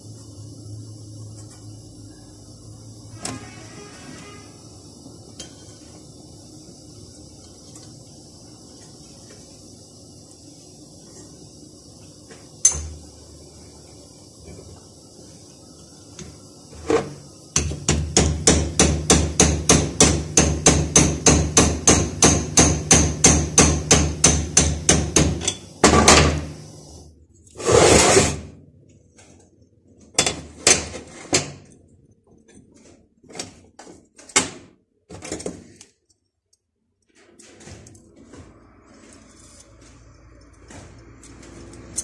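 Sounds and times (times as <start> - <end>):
gas burner hissing: 0.0 - 34.6, 37.5 - 42.0.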